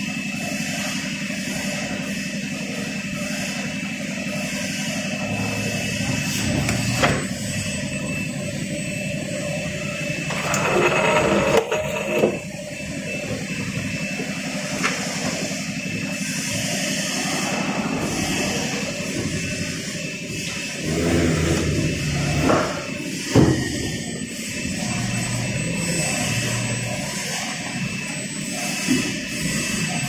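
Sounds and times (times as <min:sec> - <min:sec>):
hydraulic pump hum with whine: 0:00.0 - 0:30.0.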